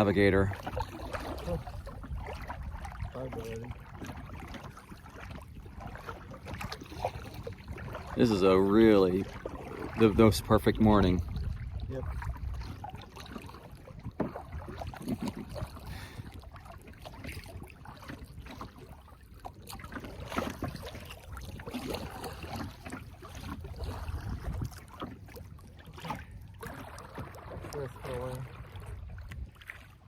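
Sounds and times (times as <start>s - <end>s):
kayak paddle splashing in water: 0.0s - 30.0s.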